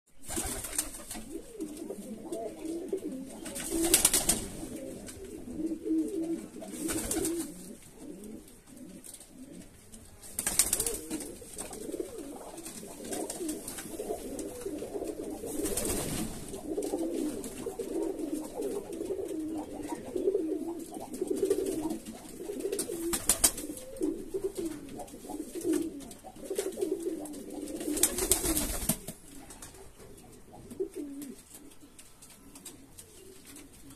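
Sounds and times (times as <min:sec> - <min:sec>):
pigeons cooing: 0:00.2 - 0:09.7, 0:10.6 - 0:32.0.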